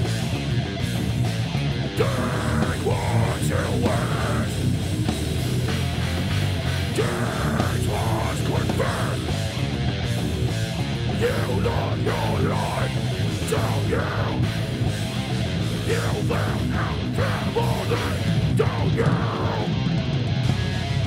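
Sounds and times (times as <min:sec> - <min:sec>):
bass guitar: 0:00.0 - 0:21.0
distorted electric guitars: 0:00.0 - 0:21.0
drum kit: 0:00.0 - 0:21.0.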